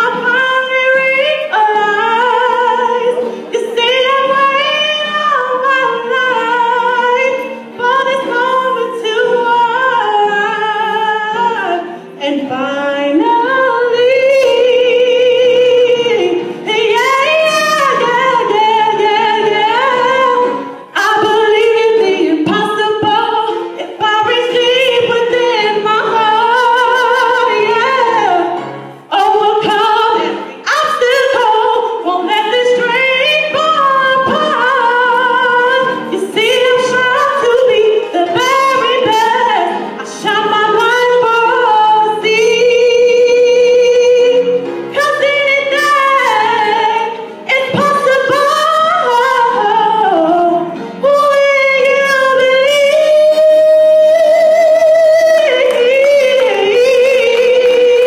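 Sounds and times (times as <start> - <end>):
woman singing into microphone: 0.0 - 58.0.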